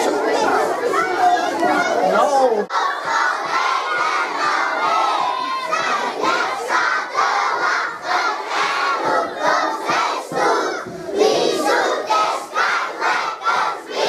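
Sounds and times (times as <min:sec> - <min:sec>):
children singing loudly: 0:00.0 - 0:14.0.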